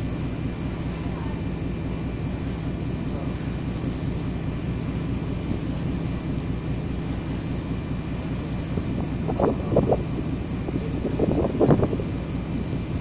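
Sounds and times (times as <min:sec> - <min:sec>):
ferry engine droning: 0:00.0 - 0:13.0
water rushing: 0:00.0 - 0:13.0.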